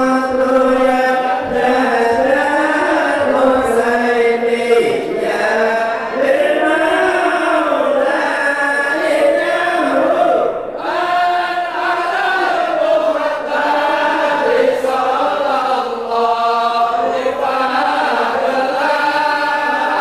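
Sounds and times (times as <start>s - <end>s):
men chanting into microphones: 0.0s - 20.0s.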